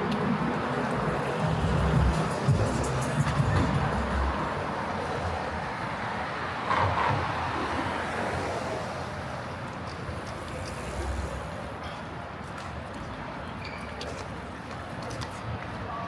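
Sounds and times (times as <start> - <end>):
street traffic passing: 0.0 - 16.0.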